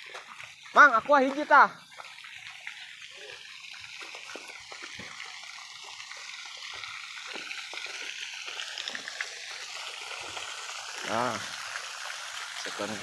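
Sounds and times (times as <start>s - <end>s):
running water trickling: 0.0s - 13.0s.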